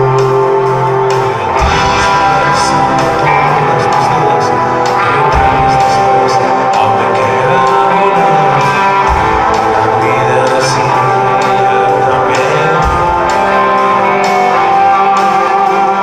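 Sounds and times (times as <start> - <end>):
electric guitar: 0.0 - 16.0
live rock music: 0.0 - 16.0.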